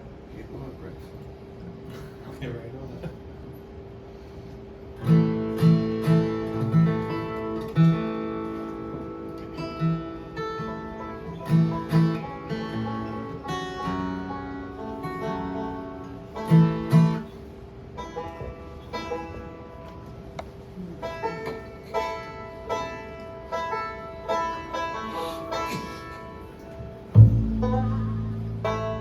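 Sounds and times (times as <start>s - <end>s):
acoustic guitar bluegrass: 5.0s - 29.0s.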